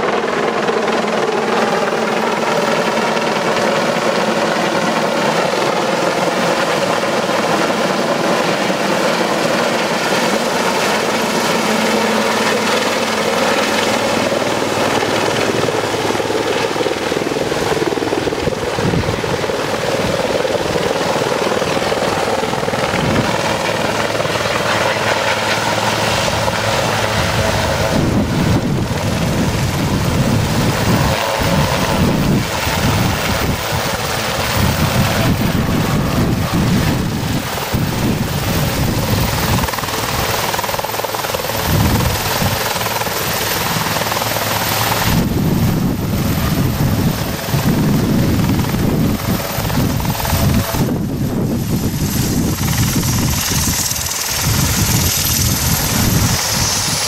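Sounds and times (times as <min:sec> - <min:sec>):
helicopter turbine and rotor: 0:00.0 - 0:57.0.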